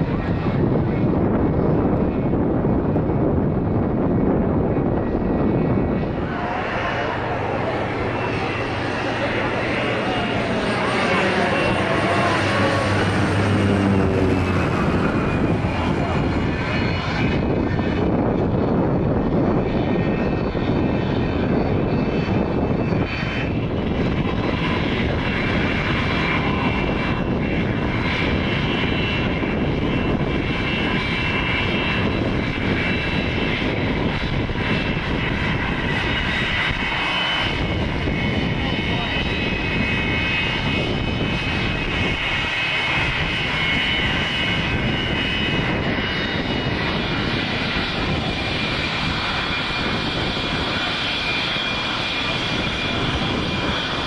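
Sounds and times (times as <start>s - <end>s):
jet engines whining: 0.0s - 54.0s
turboprop aircraft on approach: 0.0s - 54.0s.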